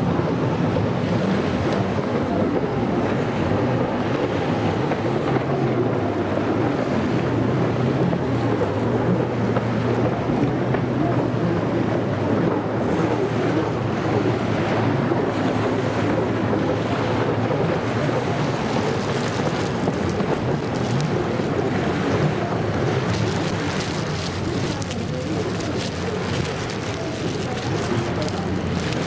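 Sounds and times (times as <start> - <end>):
jet ski engines droning: 0.0 - 29.0
surf washing in: 0.0 - 29.0
wind buffeting microphone: 0.0 - 29.0.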